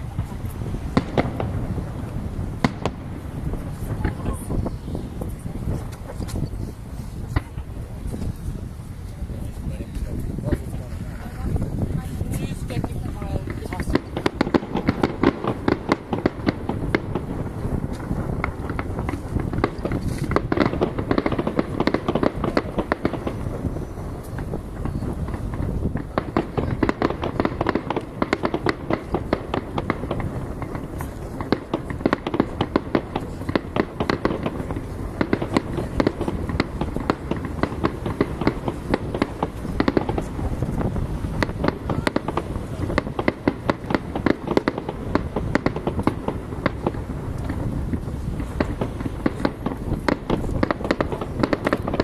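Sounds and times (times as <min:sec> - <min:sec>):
fireworks bursts and crackles: 0:00.0 - 0:52.0.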